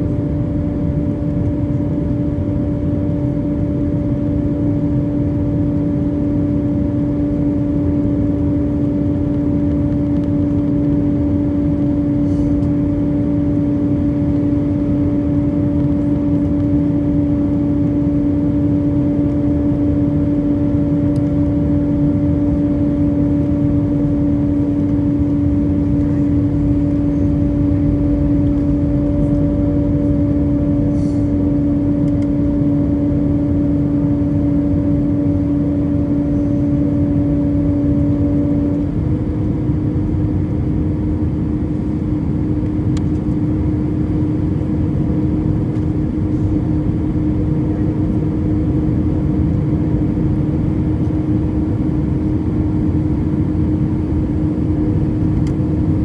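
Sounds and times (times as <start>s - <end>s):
humming engine drone: 0.0s - 56.0s
rush of air in aircraft cabin: 0.0s - 56.0s.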